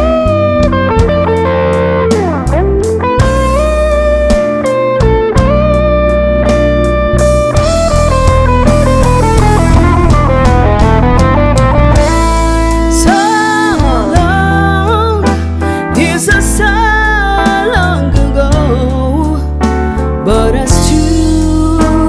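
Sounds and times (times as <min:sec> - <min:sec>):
lead guitar bent notes: 0:00.0 - 0:18.9
blues-rock ballad band playing: 0:00.0 - 0:22.0.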